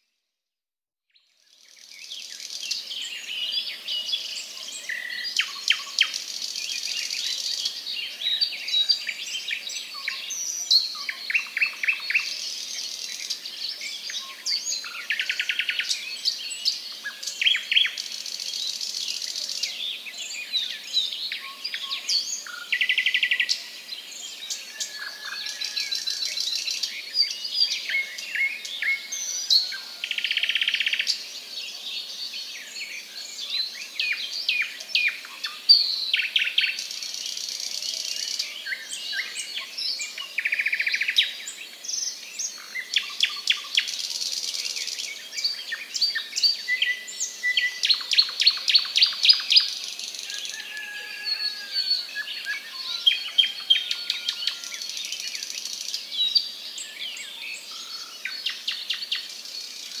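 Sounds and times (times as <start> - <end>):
birds chirping and singing: 1.8 - 60.0.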